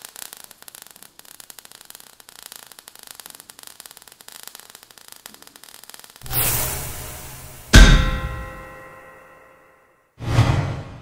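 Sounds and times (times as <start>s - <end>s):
crackling sparks: 0.0s - 9.3s.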